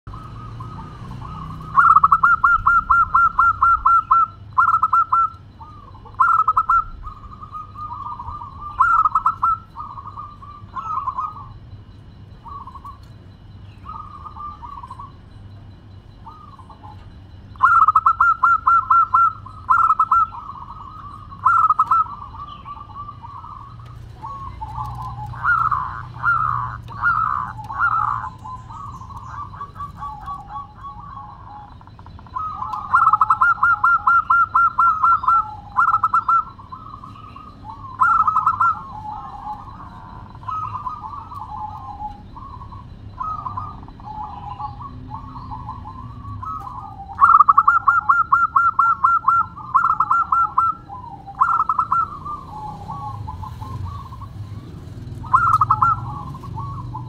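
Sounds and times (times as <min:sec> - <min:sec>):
dove cooing: 0:00.1 - 0:57.0.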